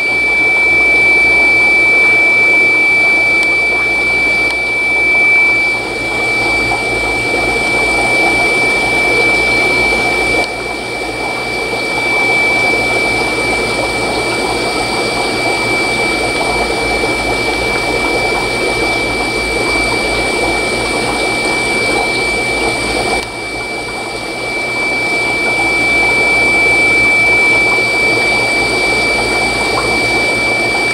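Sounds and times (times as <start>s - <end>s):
aquarium pump water rushing: 0.0s - 30.9s
high-pitched whine: 0.0s - 30.9s.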